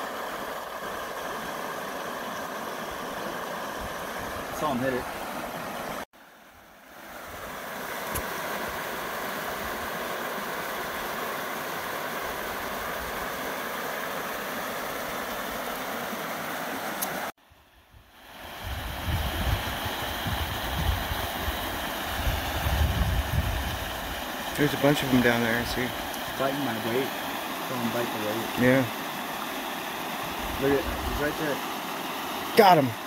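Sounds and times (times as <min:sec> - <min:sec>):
creek running over rocks: 0:00.0 - 0:17.3, 0:18.2 - 0:33.0.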